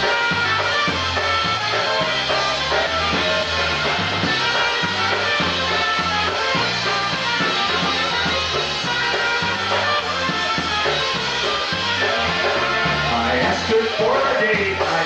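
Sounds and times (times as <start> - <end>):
live polka band playing: 0.0 - 15.0.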